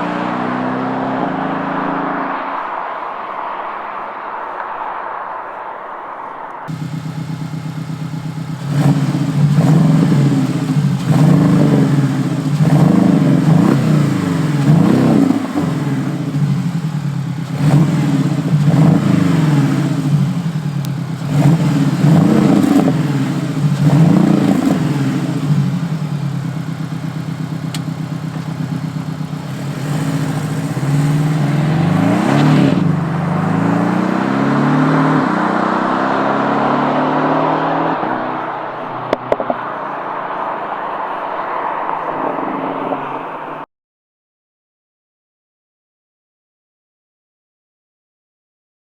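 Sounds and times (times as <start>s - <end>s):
car engine revving: 0.0s - 43.7s.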